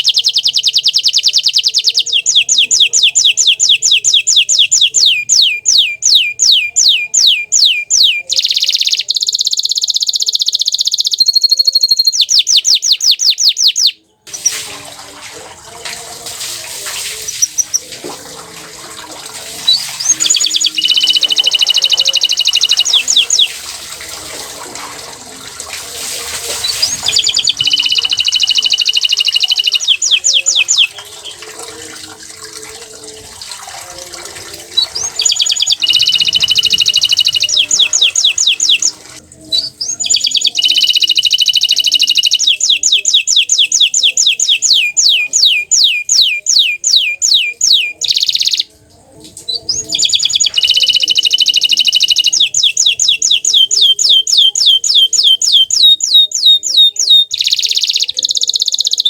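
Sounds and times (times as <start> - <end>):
canary singing: 0.0 - 14.6, 17.1 - 18.5, 19.6 - 23.7, 26.1 - 59.0.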